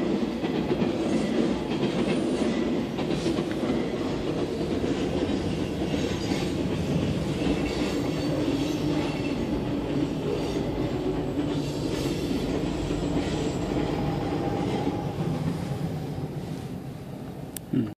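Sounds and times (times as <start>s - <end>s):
steel wheels on rails: 0.0s - 16.8s
diesel locomotives passing: 0.0s - 17.6s.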